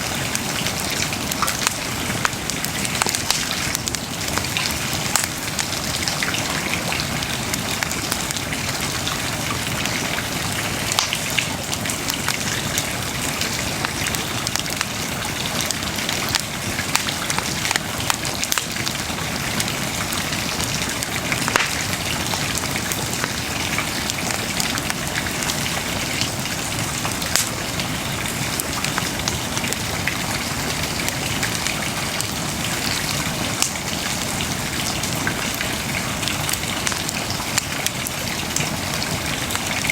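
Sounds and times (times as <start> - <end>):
bonfire crackling and hissing: 0.0 - 39.9.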